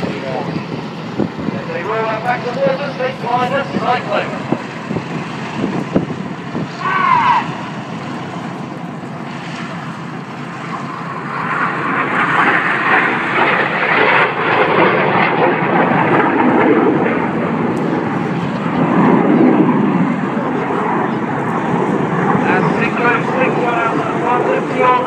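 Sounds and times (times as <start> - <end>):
jets passing: 0.0 - 25.0.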